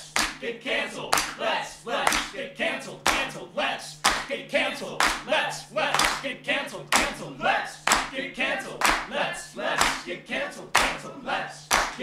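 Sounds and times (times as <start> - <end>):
hands clapping in rhythm: 0.0 - 12.0
voices singing or chanting: 0.0 - 12.0.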